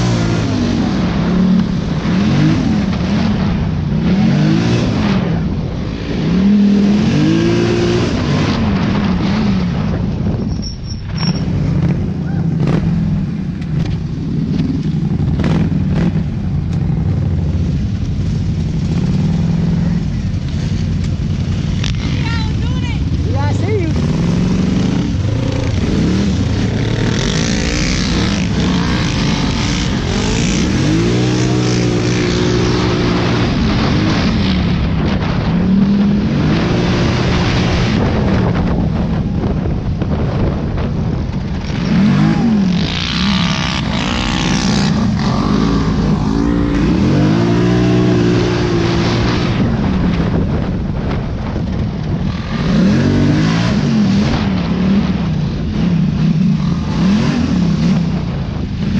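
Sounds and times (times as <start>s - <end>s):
dirt bike engine revving: 0.0s - 9.8s, 14.2s - 17.5s, 21.4s - 38.8s, 40.9s - 50.6s, 51.5s - 58.9s.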